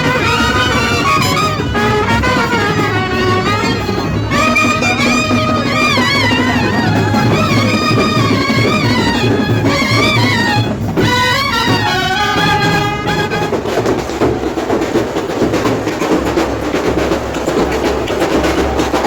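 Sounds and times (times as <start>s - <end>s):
rapid drumming: 0.0s - 19.0s.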